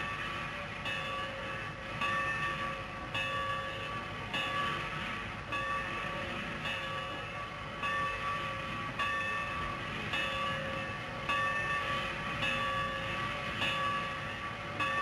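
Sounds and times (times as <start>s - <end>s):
locomotive bell ringing: 0.0s - 15.0s.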